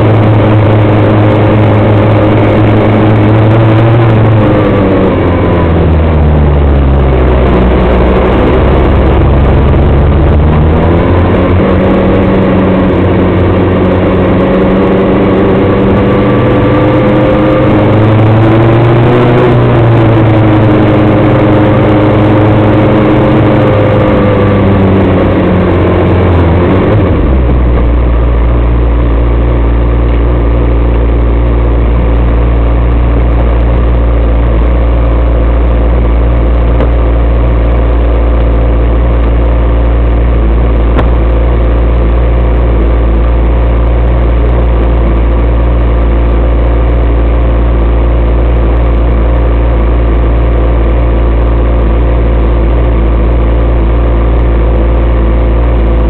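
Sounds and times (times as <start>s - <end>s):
buggy engine running: 0.0s - 56.0s.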